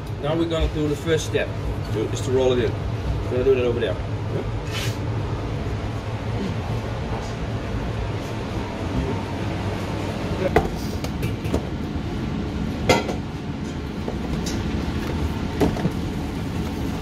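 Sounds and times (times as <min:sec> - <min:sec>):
commercial kitchen hum: 0:00.0 - 0:17.0.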